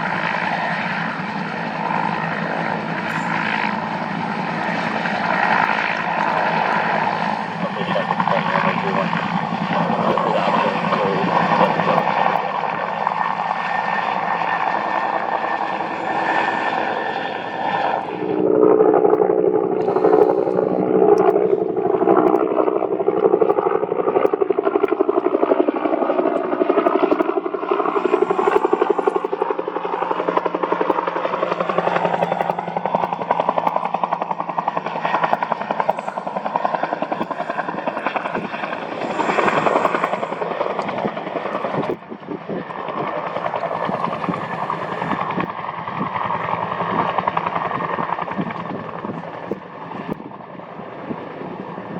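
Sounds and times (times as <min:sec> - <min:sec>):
helicopter rotor beat and engine whine: 0:00.0 - 0:51.9.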